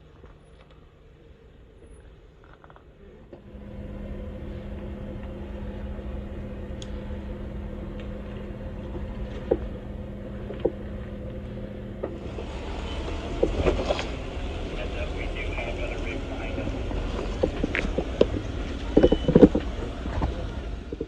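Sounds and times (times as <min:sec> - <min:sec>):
vehicle engine running at low revs: 0:00.0 - 0:21.0.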